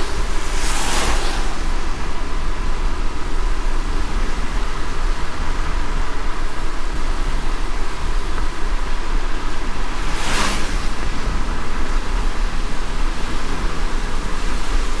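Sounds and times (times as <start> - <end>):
rain hissing: 0.0 - 15.0
tyres on a wet road: 0.0 - 15.0.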